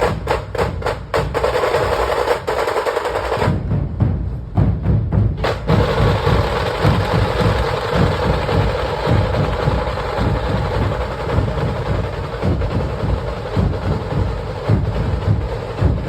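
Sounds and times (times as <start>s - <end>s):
dhol drums beating fast rhythm: 0.0s - 16.0s
tasha drums high rattle: 0.0s - 16.0s.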